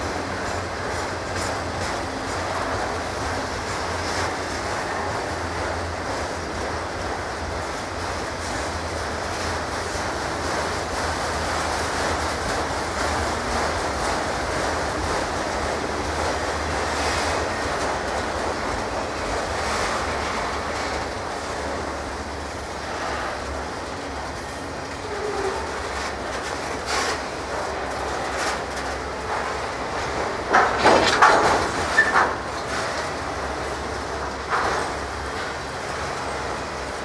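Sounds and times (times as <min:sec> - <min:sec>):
train cars rolling on rails: 0:00.0 - 0:37.0
wheels clacking over rail joints: 0:00.0 - 0:37.0.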